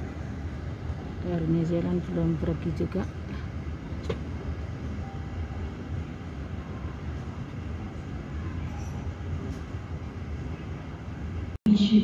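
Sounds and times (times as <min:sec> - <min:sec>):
muffled jet engines rumbling: 0:00.0 - 0:12.0.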